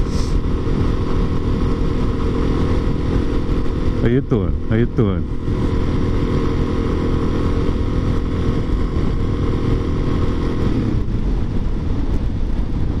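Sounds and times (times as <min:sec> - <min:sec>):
low rumble: 0:00.0 - 0:13.0
motorcycle engine running: 0:00.0 - 0:13.0.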